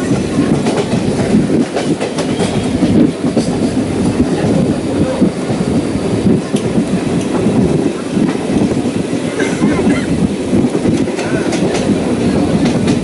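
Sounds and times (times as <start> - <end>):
rail joint clicks: 0.0 - 13.0
train wheels rumbling on track: 0.0 - 13.0.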